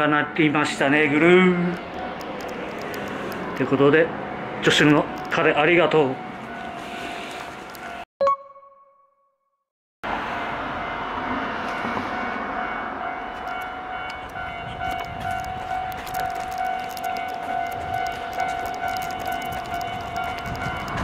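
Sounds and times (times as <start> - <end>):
level crossing alarm ringing: 0.0 - 8.0, 10.7 - 21.0.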